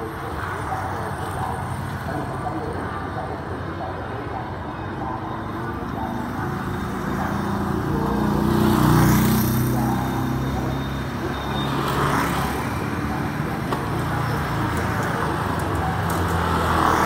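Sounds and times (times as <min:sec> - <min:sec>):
motorbikes passing: 0:00.0 - 0:17.0.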